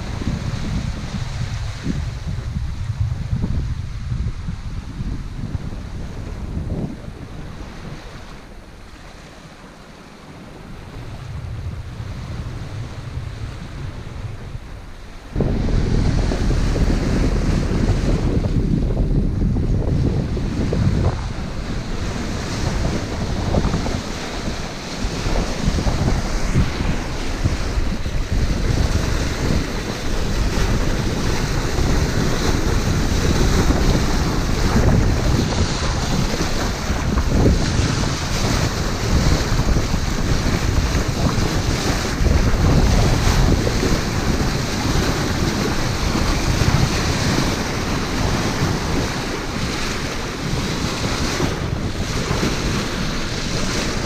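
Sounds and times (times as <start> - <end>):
waves washing: 0.0 - 54.0
wind buffeting microphone: 0.0 - 54.0.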